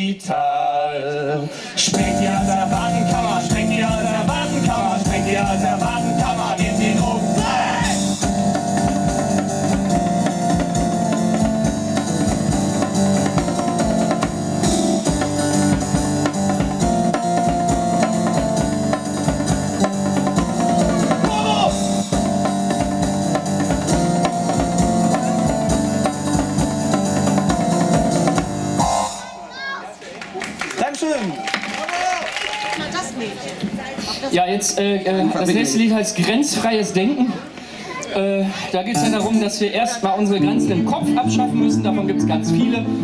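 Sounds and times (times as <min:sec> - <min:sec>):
live band playing: 0:01.6 - 0:43.0
drums keeping a steady beat: 0:01.8 - 0:34.7, 0:38.9 - 0:43.0.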